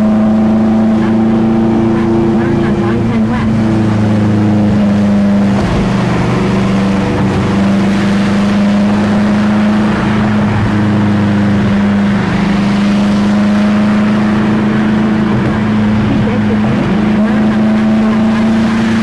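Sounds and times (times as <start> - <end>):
car engine cruising: 0.0 - 19.0
road and wind noise: 0.0 - 19.0.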